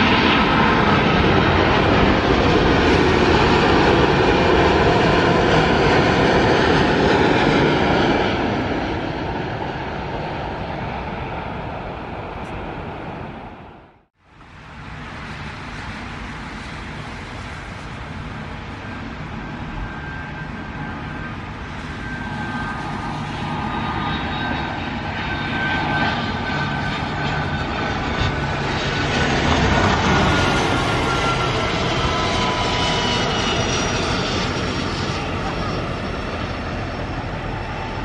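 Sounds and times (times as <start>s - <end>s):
jet engines whining and rumbling: 0.0s - 38.0s.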